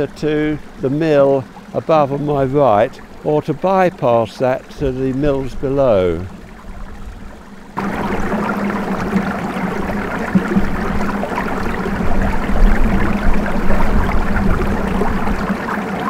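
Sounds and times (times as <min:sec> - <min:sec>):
low steady hum: 0:00.0 - 0:16.0
water rushing onto waterwheel paddles: 0:00.0 - 0:16.0.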